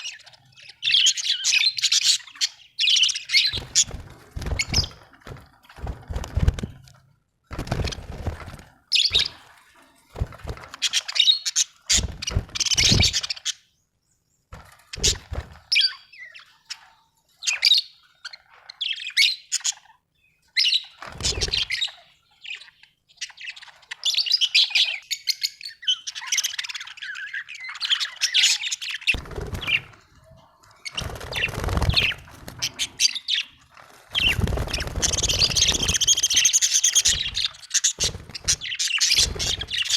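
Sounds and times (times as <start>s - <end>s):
budgerigars chirping and warbling: 0.0s - 5.1s, 8.9s - 9.4s, 10.2s - 13.7s, 14.9s - 39.9s.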